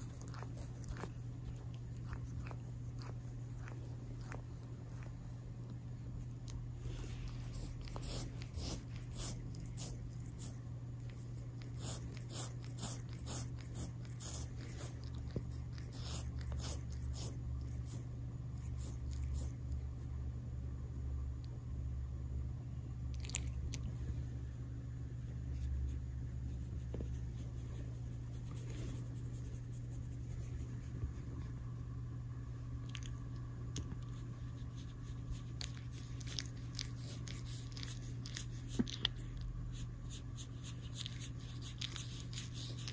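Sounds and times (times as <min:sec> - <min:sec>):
cat licking skin: 0:00.0 - 0:20.1, 0:23.1 - 0:23.9, 0:25.3 - 0:31.5, 0:32.7 - 0:42.9
low hum: 0:00.0 - 0:42.9.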